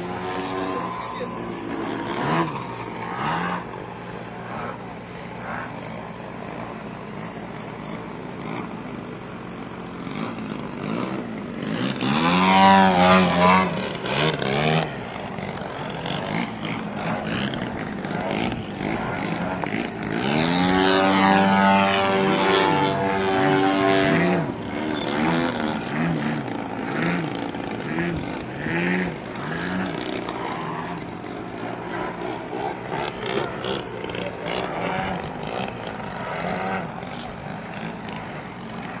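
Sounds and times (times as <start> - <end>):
model airplane engine flying by: 0.0 - 39.0.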